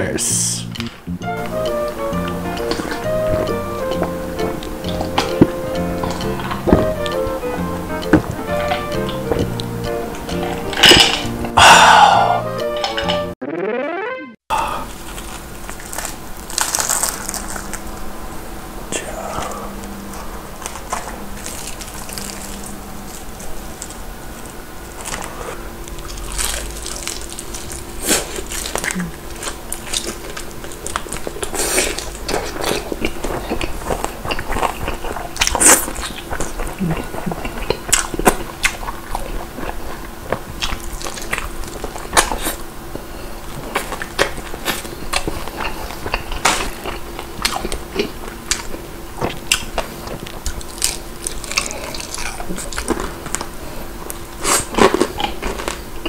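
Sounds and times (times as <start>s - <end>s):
crunchy chewing: 1.9s - 9.7s, 14.9s - 18.4s, 19.1s - 56.0s.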